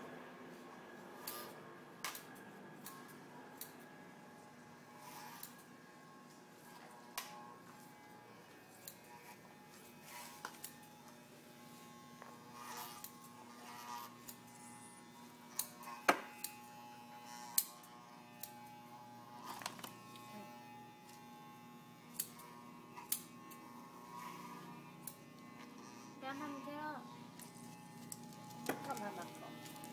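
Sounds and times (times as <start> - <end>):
electric clippers buzzing: 1.1 - 29.9.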